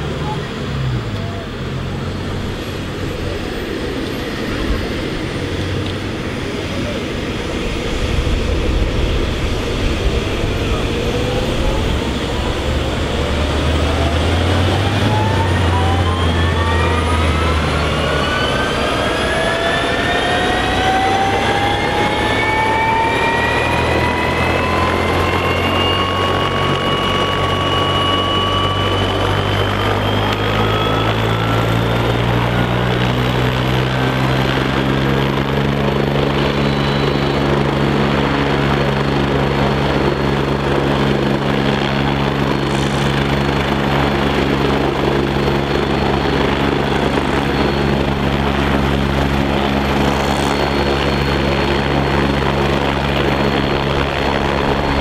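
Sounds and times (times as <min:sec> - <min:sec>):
helicopter rotor thrum: 0:00.0 - 0:55.0
turbine whine rising: 0:00.0 - 0:55.0.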